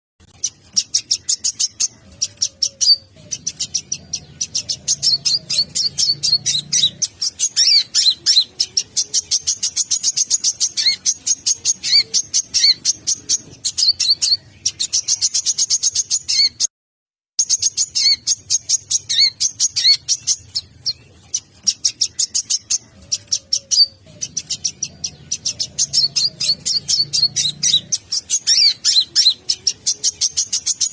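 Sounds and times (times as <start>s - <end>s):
bird singing high chirps and trills: 0.2s - 16.7s, 17.4s - 30.9s.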